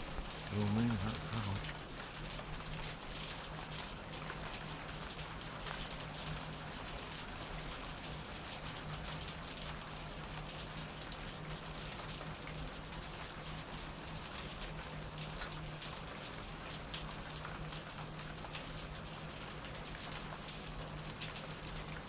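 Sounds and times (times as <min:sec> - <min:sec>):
steady rain with drop ticks: 0:00.0 - 0:22.0.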